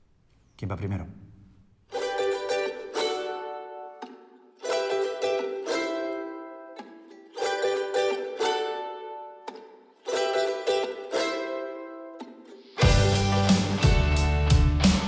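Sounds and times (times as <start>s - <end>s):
plucked string instrument strummed: 1.9s - 15.0s.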